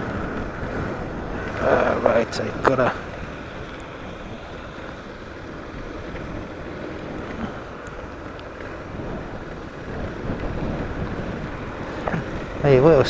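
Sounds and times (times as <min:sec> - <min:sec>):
wind rush: 0:00.0 - 0:13.0.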